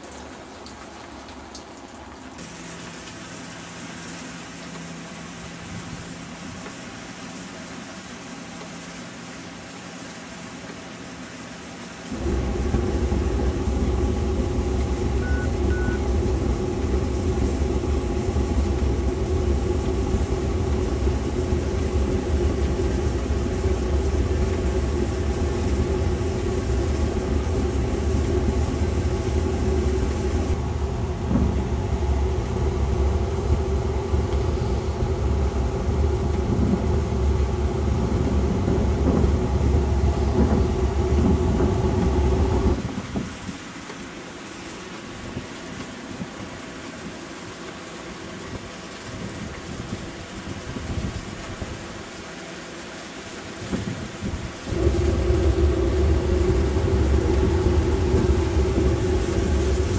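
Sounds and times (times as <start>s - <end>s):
machine rumbling hum: 0.1s - 59.9s.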